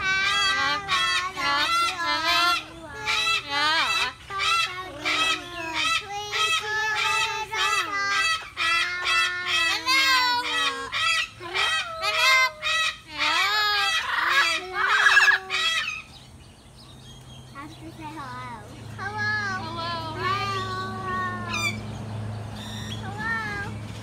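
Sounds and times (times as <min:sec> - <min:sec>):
parrot singing warbling phrases: 0:00.0 - 0:16.2, 0:17.7 - 0:21.9.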